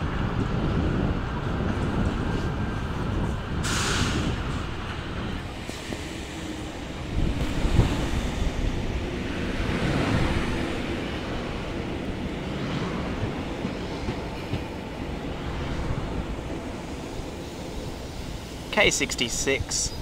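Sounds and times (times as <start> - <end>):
electric train rolling on rails: 0.0 - 20.0.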